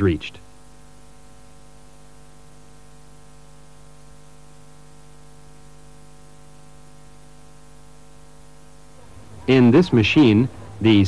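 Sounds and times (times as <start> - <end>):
constant hiss: 0.0 - 11.0
electrical hum: 0.0 - 11.0.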